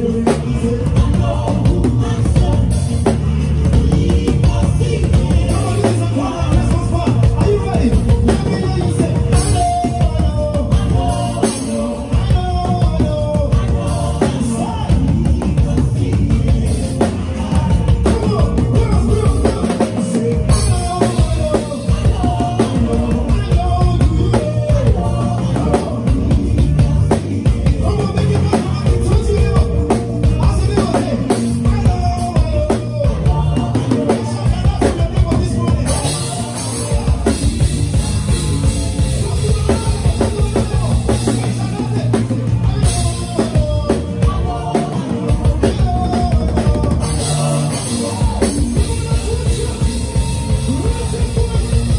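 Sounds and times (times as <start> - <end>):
drum kit beat: 0.0 - 51.9
live band playing upbeat groove: 0.0 - 51.9.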